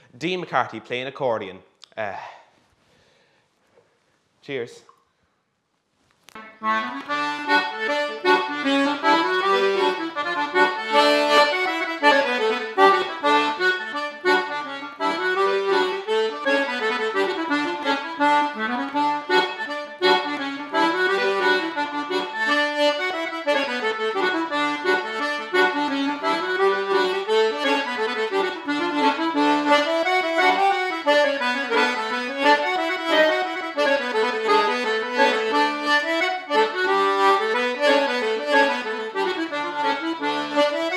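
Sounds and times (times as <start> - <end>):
button accordion playing: 6.3 - 40.9.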